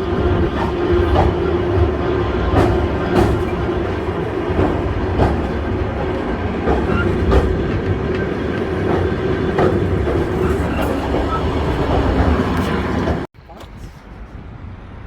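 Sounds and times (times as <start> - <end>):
wheels clicking over rail joints: 0.0 - 14.4
railway car rumbling on track: 0.0 - 15.0.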